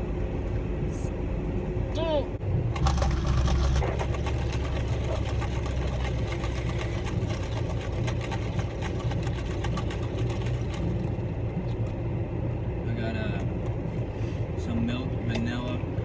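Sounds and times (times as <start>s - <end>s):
car engine hum from cabin: 0.0s - 16.0s.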